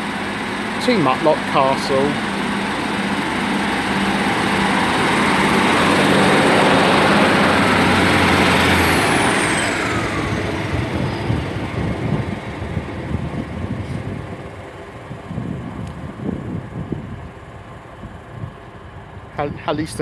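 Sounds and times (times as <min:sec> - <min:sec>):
high whine falling in pitch: 0:00.0 - 0:18.5
diesel train engine: 0:00.0 - 0:20.0.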